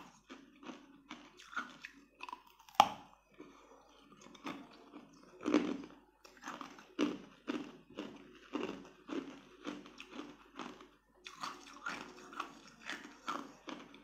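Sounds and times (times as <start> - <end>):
crunchy lotus root chewing: 0.0 - 14.0.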